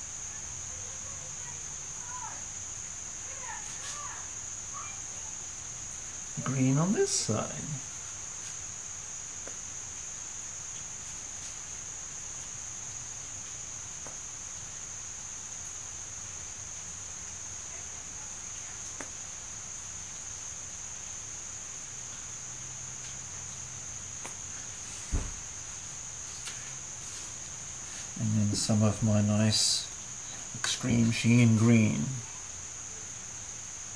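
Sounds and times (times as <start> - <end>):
steady high-pitched whine: 0.0 - 18.3, 19.2 - 33.9.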